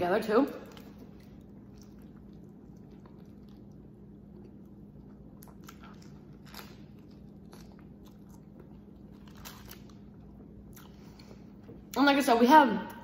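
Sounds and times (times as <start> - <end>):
person chewing sandwich: 0.7 - 11.9.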